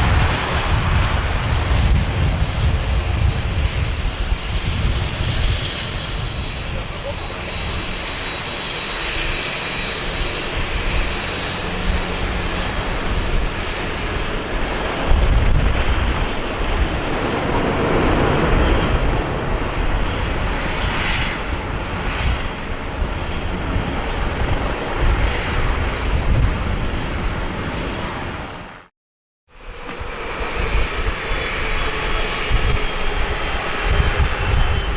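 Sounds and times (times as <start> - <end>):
jet engine rush and rumble: 0.0 - 28.9, 29.5 - 34.9.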